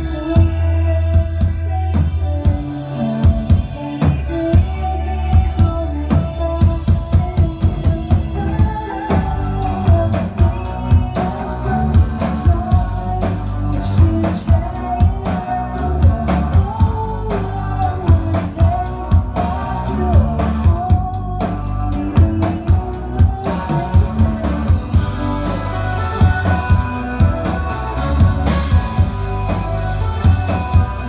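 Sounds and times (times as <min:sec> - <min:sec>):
bass and electric guitars: 0:00.0 - 0:31.0
person singing: 0:00.0 - 0:31.0
drum kit beat: 0:05.4 - 0:31.0.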